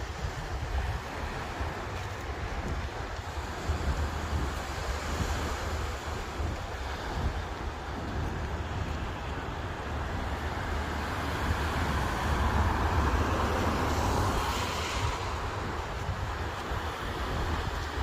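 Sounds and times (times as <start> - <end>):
sea surf washing in: 0.0 - 18.0
wind rumbling on microphone: 0.0 - 18.0.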